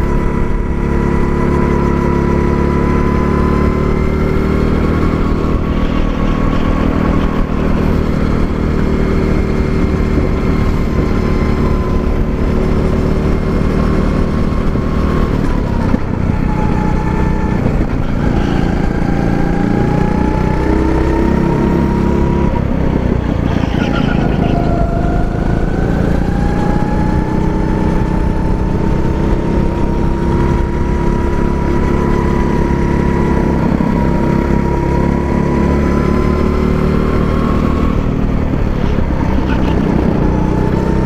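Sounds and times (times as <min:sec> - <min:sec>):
go-kart engine running: 0:00.0 - 0:41.0.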